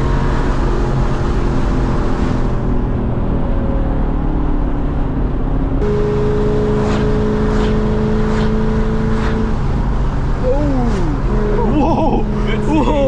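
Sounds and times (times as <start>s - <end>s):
car engine with loud exhaust: 0.0s - 13.0s.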